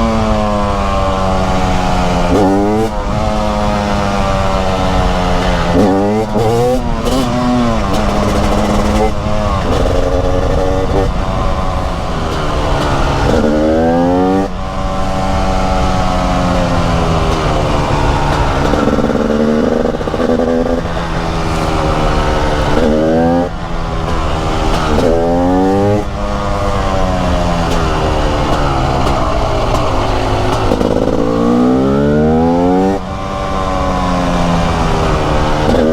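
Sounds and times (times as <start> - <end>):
two-stroke motorcycle engine revving: 0.0 - 35.9.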